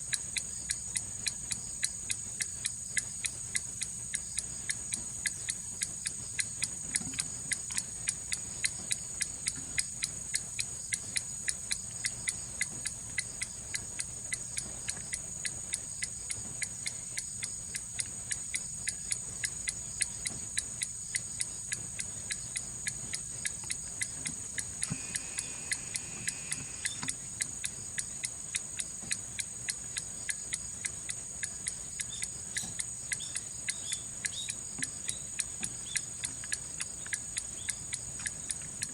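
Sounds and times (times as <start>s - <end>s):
pendulum clock ticking: 0.1s - 38.9s.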